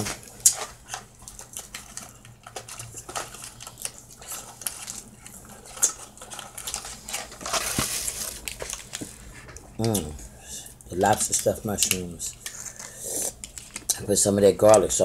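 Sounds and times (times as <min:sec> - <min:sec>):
crab shell clicking and crackling: 0:00.2 - 0:07.6, 0:08.3 - 0:14.0.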